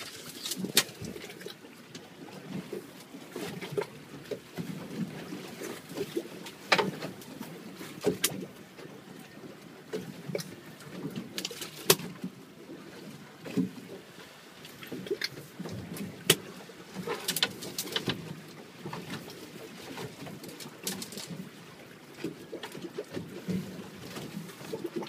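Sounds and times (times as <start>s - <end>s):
water slapping against boat hull: 0.0s - 8.9s, 9.9s - 12.4s, 13.4s - 14.0s, 14.6s - 25.0s.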